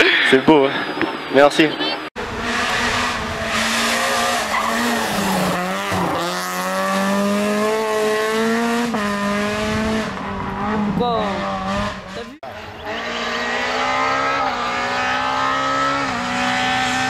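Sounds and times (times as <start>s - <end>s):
rally car engine revving: 1.8s - 17.0s.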